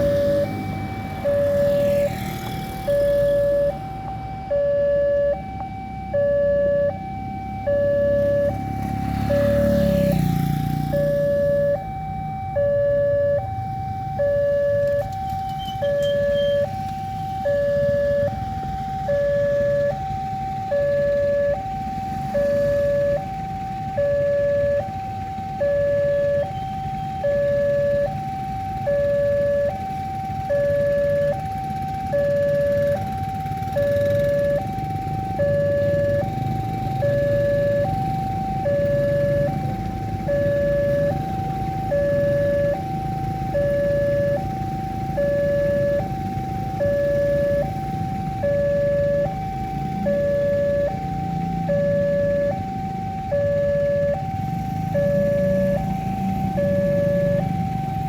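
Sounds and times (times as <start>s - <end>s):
two-tone crossing alarm: 0.0s - 58.0s.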